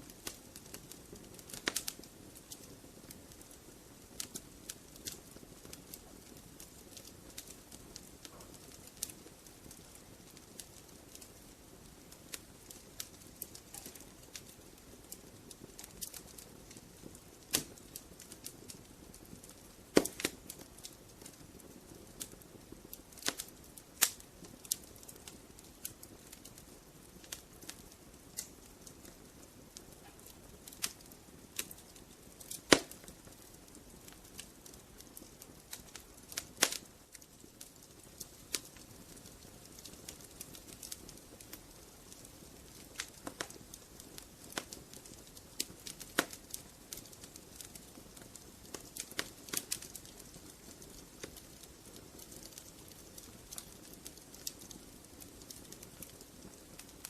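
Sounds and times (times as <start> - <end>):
fireplace fire crackling: 0.0 - 57.0
low hiss: 0.0 - 57.0.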